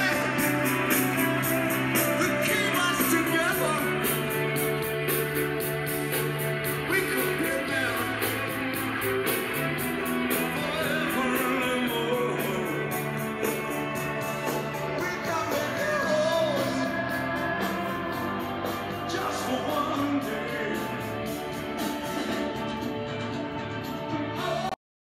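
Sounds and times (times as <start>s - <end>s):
rock song with singing: 0.0s - 24.8s.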